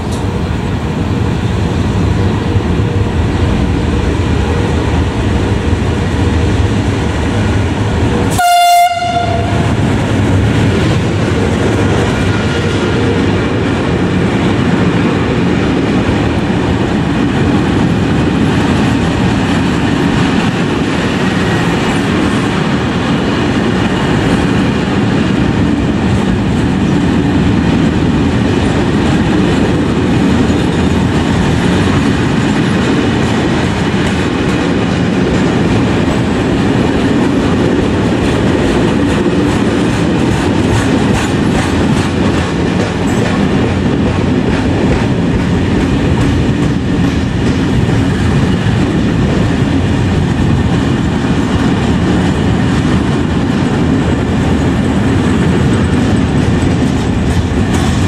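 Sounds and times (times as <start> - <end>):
train wheels running on rails: 0.0 - 58.0
wheels clacking over rail joints: 0.0 - 58.0.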